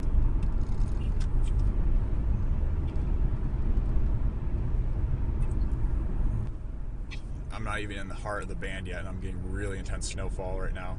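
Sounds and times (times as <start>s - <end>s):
car tyre and engine rumble: 0.0s - 10.9s.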